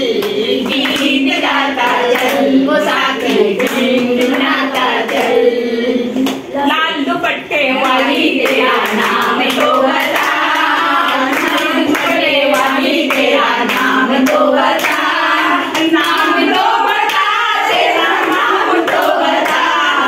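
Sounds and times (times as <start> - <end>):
hands clapping in rhythm: 0.0 - 5.5, 6.1 - 6.5, 7.8 - 20.0
women singing together: 0.0 - 20.0.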